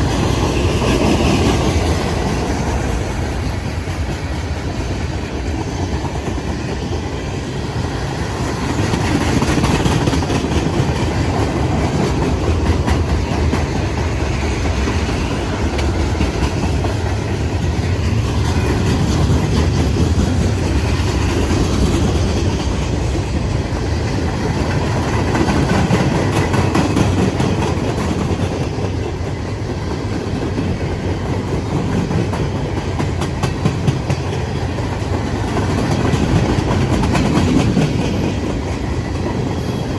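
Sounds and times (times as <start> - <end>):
freight train rumble: 0.0 - 39.9
train wheels clicking over rail joints: 0.0 - 39.9.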